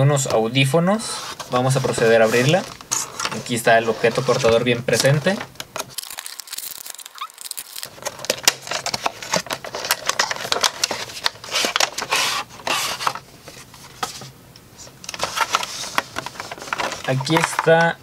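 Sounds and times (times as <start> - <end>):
plastic rustling: 1.0 - 18.0
plastic blister tray crackling: 1.5 - 13.2, 15.0 - 18.0.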